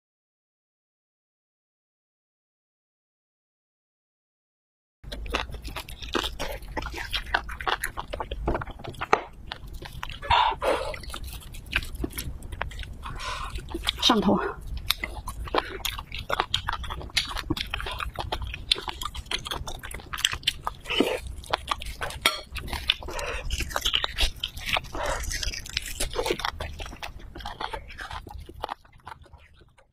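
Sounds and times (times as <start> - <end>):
wet mouth smacks and chewing: 5.1 - 29.9.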